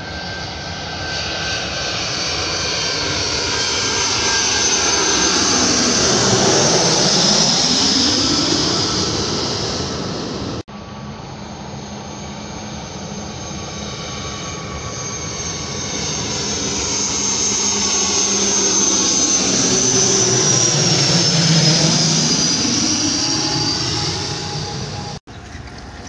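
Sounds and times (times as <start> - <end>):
turboprop airliner droning: 0.0 - 26.0.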